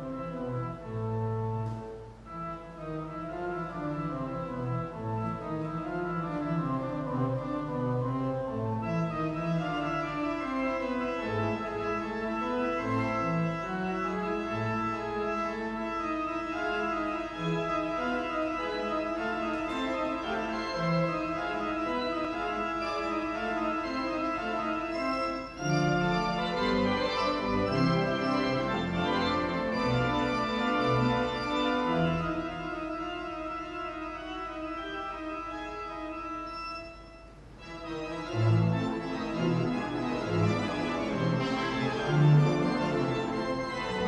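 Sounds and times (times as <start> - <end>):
theatre pipe organ playing: 0.0 - 44.0.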